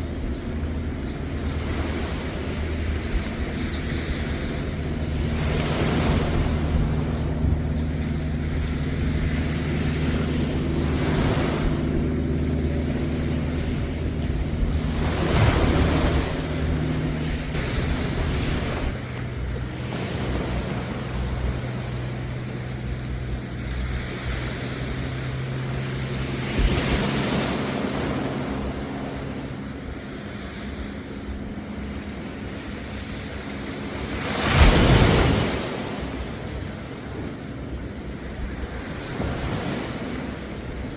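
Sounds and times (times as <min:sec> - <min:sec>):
low engine hum: 0:00.0 - 0:40.9
waves breaking on a beach: 0:00.0 - 0:40.9.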